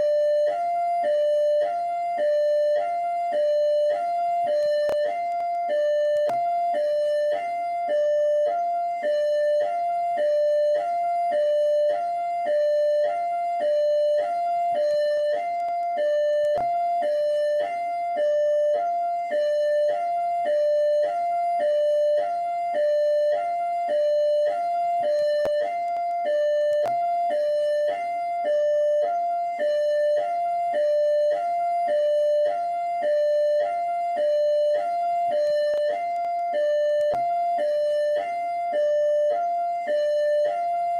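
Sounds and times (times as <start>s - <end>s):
police siren hi-lo tones: 0.0s - 40.9s.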